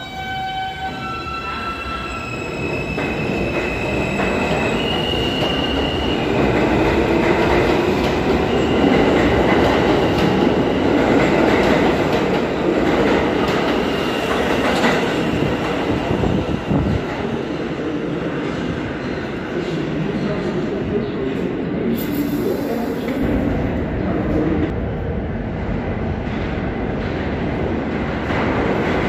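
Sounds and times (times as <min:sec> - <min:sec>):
subway train propulsion whine: 0:00.0 - 0:29.0
train wheels rumbling on rails: 0:01.7 - 0:29.0.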